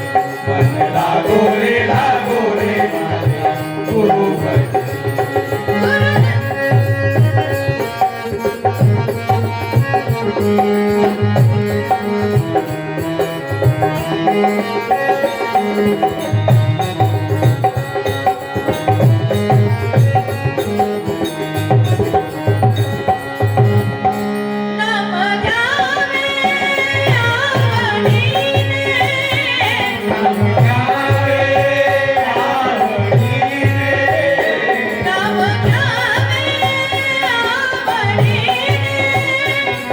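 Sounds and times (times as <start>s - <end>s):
hand drums beating a rhythm: 0.0s - 24.4s, 26.4s - 39.9s
harmonium chords: 0.0s - 39.9s.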